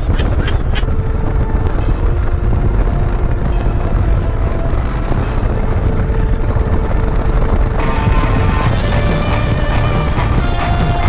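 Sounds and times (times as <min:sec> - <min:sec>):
motorcycle engine running: 0:00.0 - 0:11.0
road rumble: 0:00.0 - 0:11.0
wind noise on microphone: 0:00.0 - 0:11.0.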